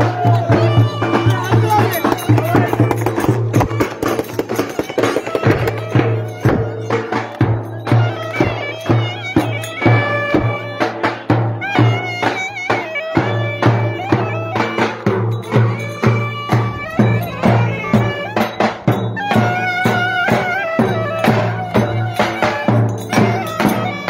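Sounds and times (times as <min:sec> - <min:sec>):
reedy wind instrument melody: 0:00.0 - 0:24.0
steady drum beat: 0:00.0 - 0:24.0.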